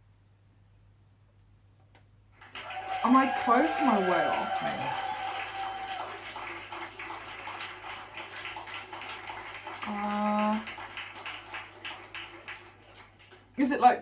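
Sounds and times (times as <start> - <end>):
crowd applause: 2.4 - 13.8.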